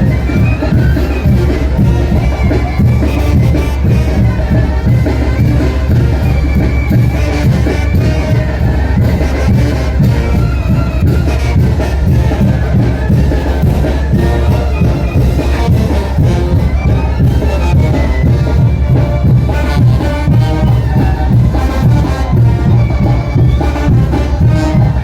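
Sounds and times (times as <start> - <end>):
brass band playing: 0.0 - 25.0
drum beat: 0.0 - 25.0.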